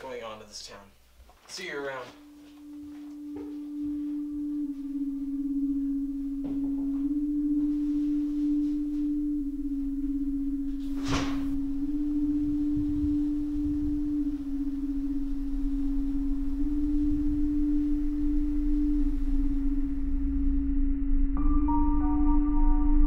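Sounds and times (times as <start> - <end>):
synthesized drone tone: 1.5 - 23.0
low rumble: 2.2 - 23.0.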